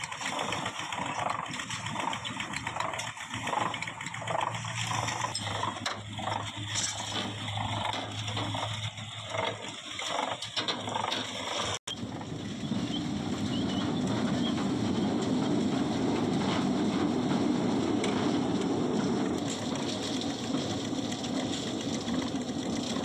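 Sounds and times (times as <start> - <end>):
machinery din: 0.0 - 23.0
metal clanking and rattling: 0.0 - 23.0.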